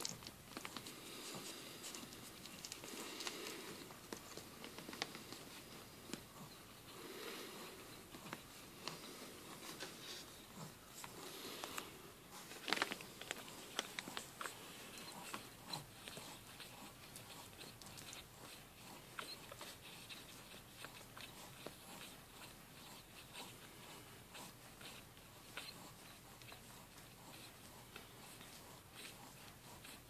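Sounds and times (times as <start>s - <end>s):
puppies suckling wet clicks: 0.0s - 7.1s, 7.7s - 30.0s.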